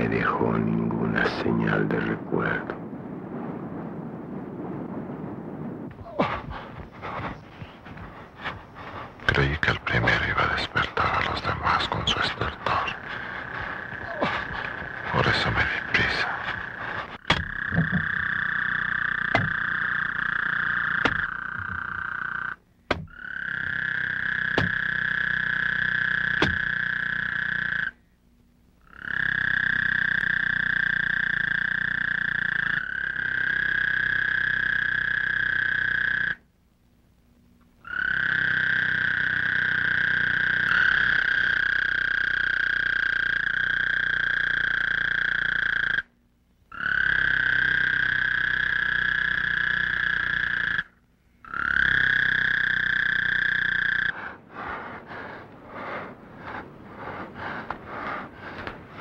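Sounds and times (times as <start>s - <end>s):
frogs calling: 6.0s - 28.2s, 28.8s - 36.5s, 37.8s - 59.0s.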